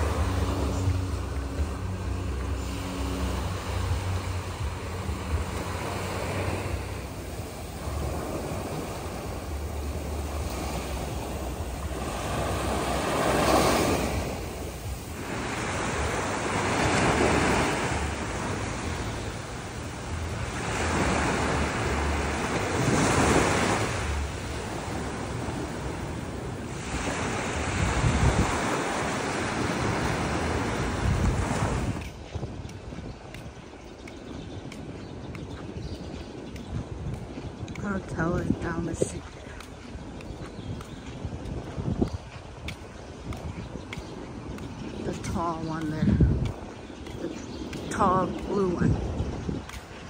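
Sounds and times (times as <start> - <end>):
ocean surf washing onto beach: 0.0 - 33.6, 36.1 - 50.0
wind rumbling on microphone: 0.0 - 50.0.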